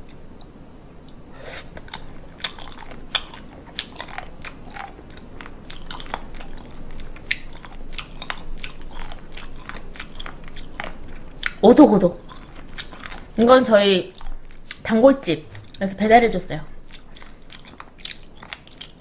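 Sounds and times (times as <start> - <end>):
person chewing crunchy food: 0.0 - 14.9, 15.5 - 15.9, 16.7 - 19.0.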